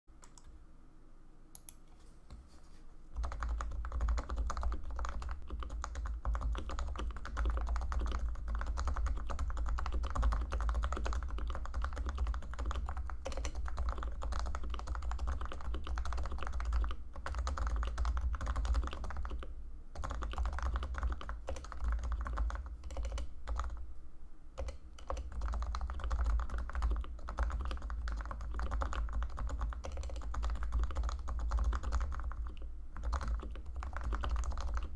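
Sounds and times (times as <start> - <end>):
soft keyboard keystrokes: 0.2 - 0.5, 3.2 - 23.8, 24.6 - 34.9.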